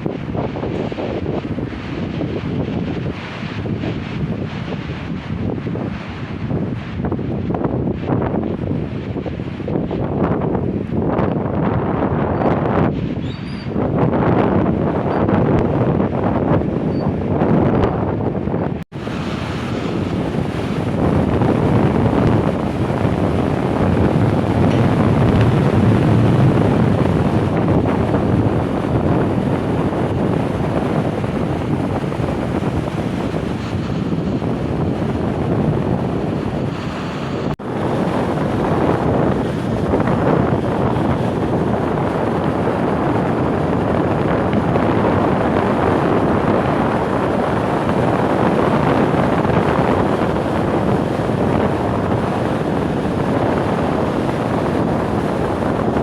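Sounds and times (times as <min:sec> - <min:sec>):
surf washing onto shore: 0:00.0 - 0:11.6, 0:18.9 - 0:56.0
wind buffeting microphone: 0:00.0 - 0:56.0.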